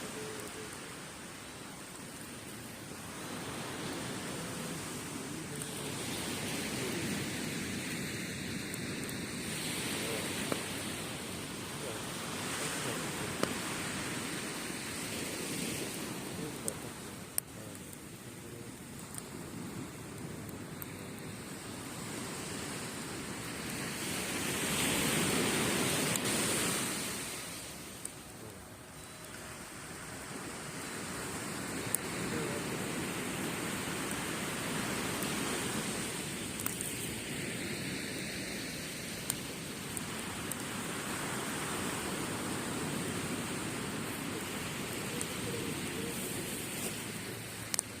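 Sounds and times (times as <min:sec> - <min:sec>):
ocean wave breaking on beach: 0:00.0 - 0:28.0, 0:29.5 - 0:48.0
campfire wood crackles: 0:00.0 - 0:48.0.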